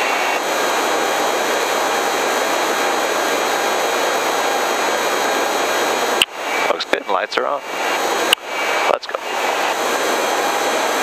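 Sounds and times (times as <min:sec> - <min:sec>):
helicopter engines and rotor: 0:00.0 - 0:11.0.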